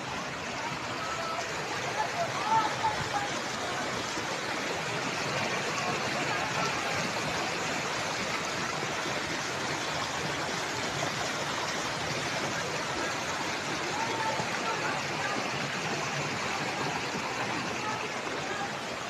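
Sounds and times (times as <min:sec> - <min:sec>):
flood water rushing over ground: 0:00.0 - 0:19.0.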